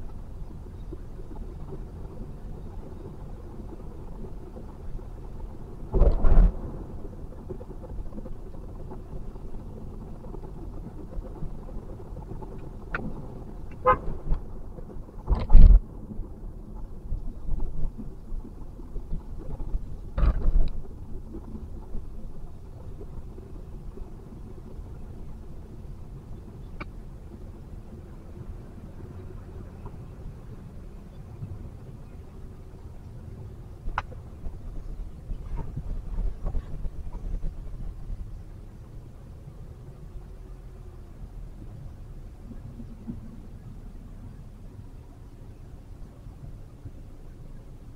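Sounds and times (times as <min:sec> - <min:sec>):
car cabin road noise: 0:00.0 - 0:47.9.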